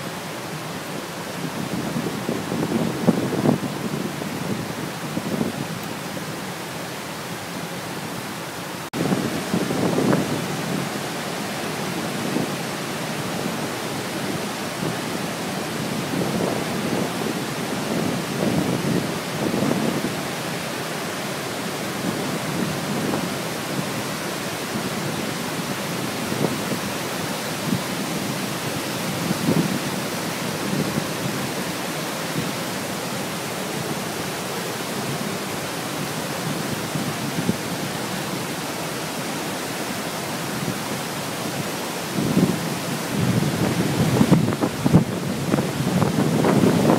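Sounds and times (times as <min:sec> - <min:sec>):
rushing creek and waterfall: 0:00.0 - 0:46.9.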